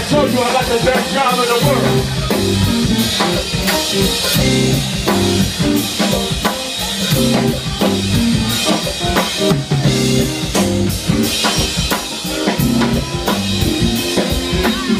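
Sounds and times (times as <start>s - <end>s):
snare and bass drum beat: 0.0s - 14.9s.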